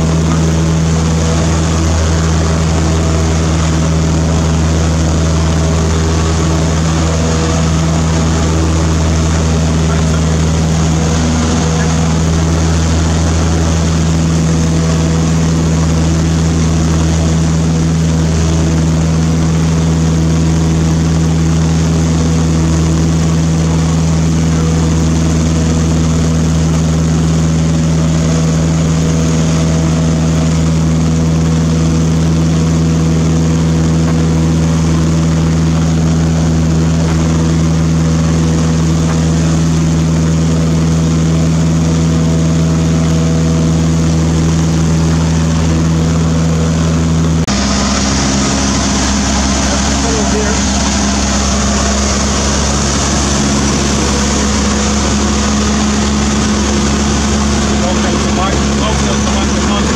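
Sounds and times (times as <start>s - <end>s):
aircraft engine and propeller: 0.0s - 59.9s.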